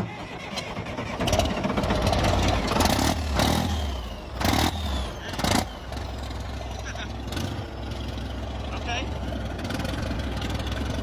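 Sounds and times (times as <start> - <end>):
diesel engine starting and running unevenly: 0.0 - 11.0.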